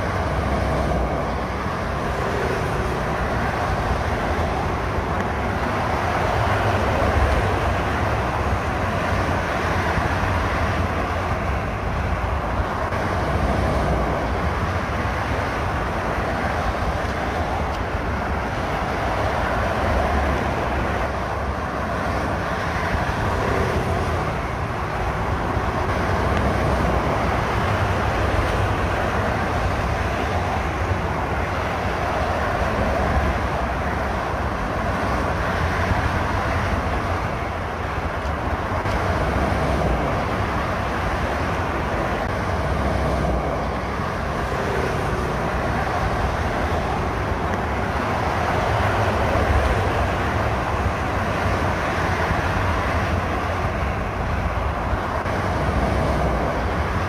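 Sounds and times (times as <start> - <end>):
motorway traffic: 0.0 - 57.0.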